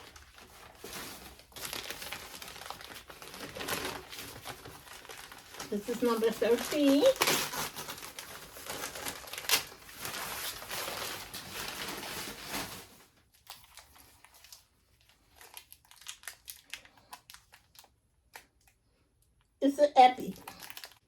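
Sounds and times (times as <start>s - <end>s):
packing material rustling: 0.0s - 18.8s, 20.2s - 21.0s.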